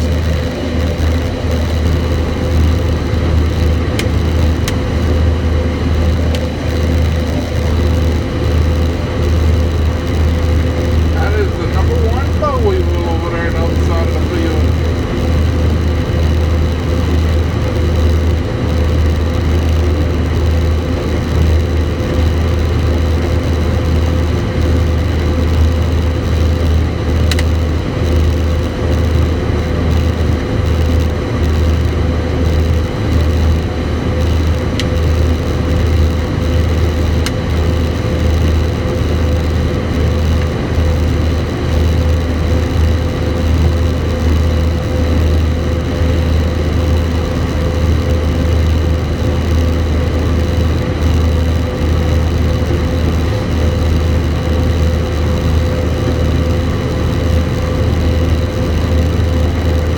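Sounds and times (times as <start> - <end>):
combine harvester engine drone: 0.0 - 59.9
faint steady whine: 0.0 - 59.9.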